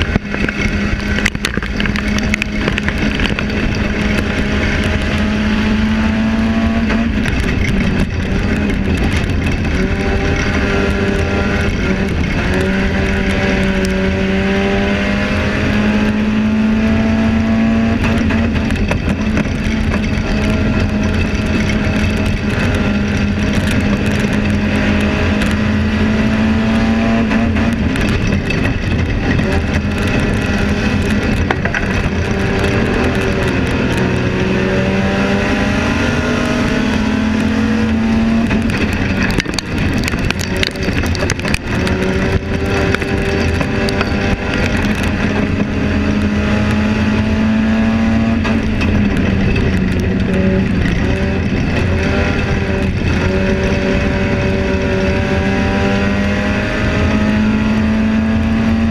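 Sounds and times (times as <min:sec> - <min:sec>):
sharp knocks and rattles: 0:00.0 - 0:14.8, 0:15.7 - 0:58.0
race car engine revving: 0:00.0 - 0:58.9.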